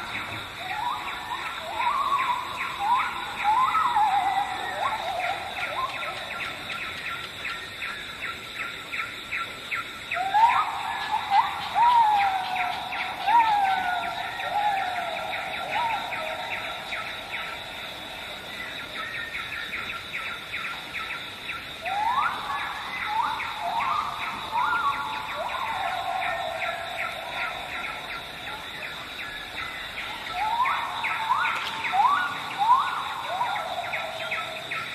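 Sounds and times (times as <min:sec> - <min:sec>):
birds whistling: 0:00.0 - 0:07.6, 0:09.7 - 0:34.9
high insect drone: 0:00.0 - 0:34.9.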